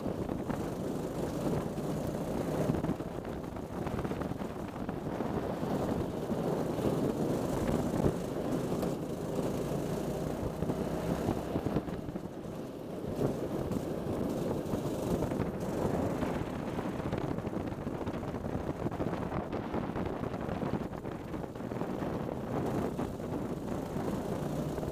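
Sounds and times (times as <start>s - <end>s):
kart engine running: 0.0s - 24.9s
wind noise on microphone: 0.0s - 24.9s.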